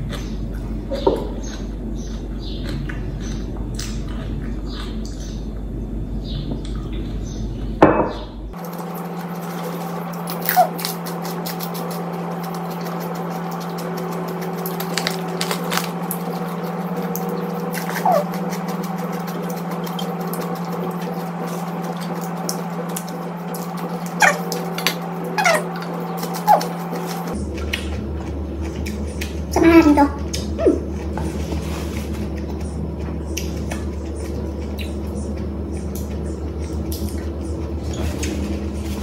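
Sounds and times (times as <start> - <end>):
chewing raw vegetables: 0.0 - 5.7, 8.6 - 39.0
steady low hum: 0.0 - 39.0.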